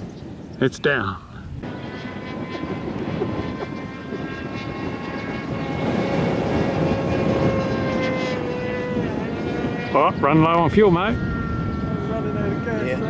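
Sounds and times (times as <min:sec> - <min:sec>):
model airplane engine droning: 0:00.0 - 0:00.6, 0:01.3 - 0:13.0.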